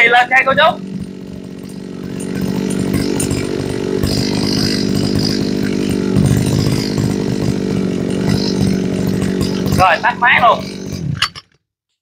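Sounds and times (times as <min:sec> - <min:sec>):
brush cutter engine running: 0:00.0 - 0:11.6.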